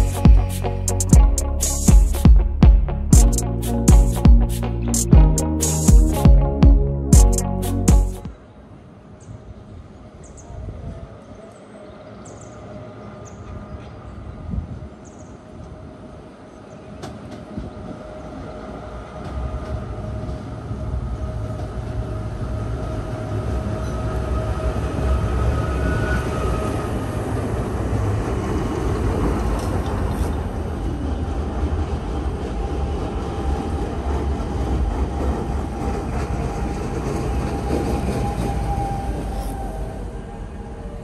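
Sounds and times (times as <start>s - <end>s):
railcar passing: 7.4s - 41.0s.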